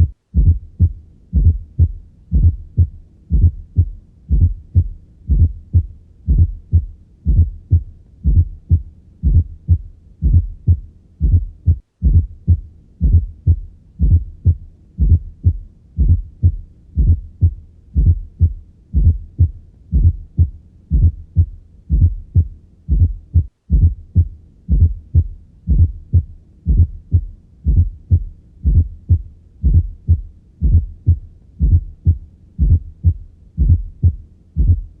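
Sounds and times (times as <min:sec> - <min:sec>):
heartbeat through stethoscope: 0:00.0 - 0:35.0.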